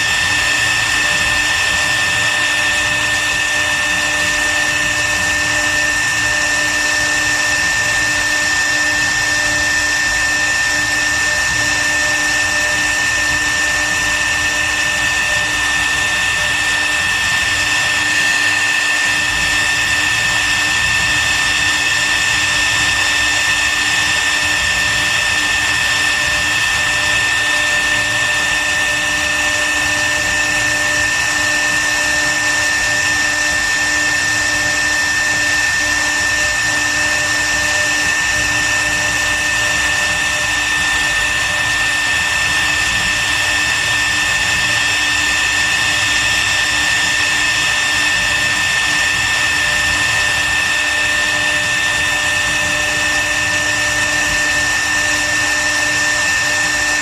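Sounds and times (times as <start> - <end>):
router spindle whine: 0.0 - 57.0.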